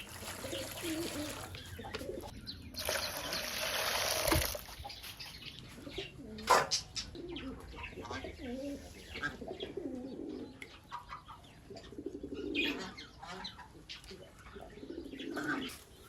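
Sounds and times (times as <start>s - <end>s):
pigeons cooing: 0.0s - 2.5s, 5.6s - 16.0s.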